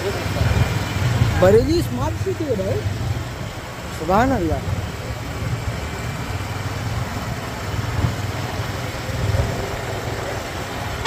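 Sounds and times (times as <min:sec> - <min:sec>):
motorcycle engine hum: 0:00.0 - 0:11.0
road noise: 0:00.0 - 0:11.0.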